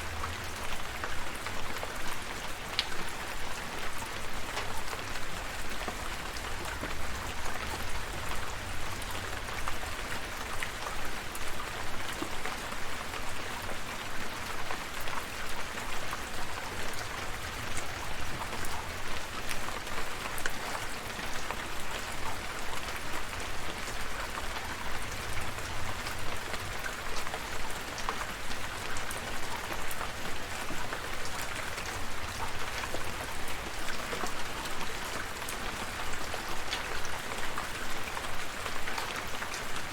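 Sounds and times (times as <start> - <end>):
raindrops ticking on a surface: 0.0 - 39.9
steady rain hiss: 0.0 - 39.9.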